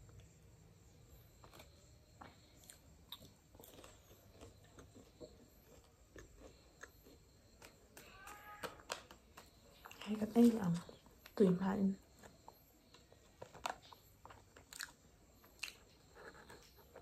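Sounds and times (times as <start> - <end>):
chewing crisp cone: 1.2 - 10.0, 12.1 - 17.0.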